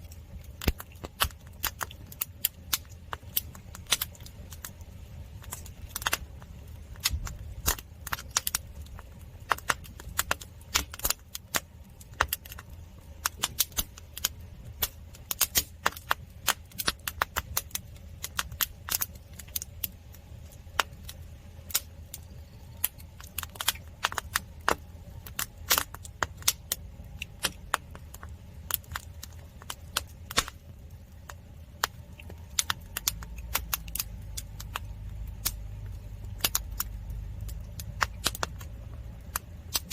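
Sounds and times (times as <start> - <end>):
firewood crackling and popping: 0.0 - 39.9
low fire rumble: 0.0 - 39.9.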